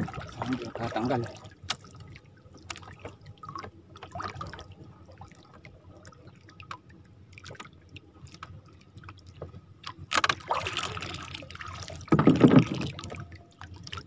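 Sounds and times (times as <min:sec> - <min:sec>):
water lapping against hull: 0:00.0 - 0:14.0.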